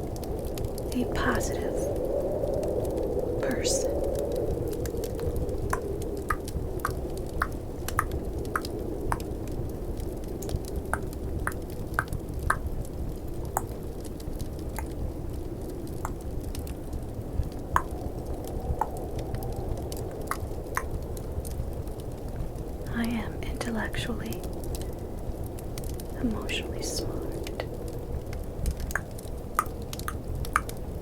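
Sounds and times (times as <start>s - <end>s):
fireplace crackling: 0.0s - 31.0s
snowstorm wind: 0.0s - 31.0s.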